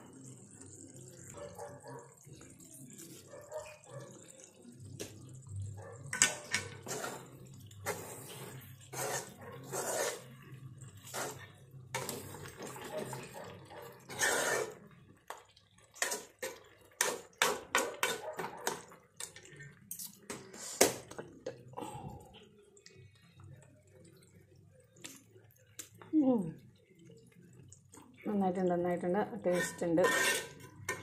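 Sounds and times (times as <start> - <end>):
ladle stirring thick gravy: 0.0 - 21.7, 22.3 - 31.0.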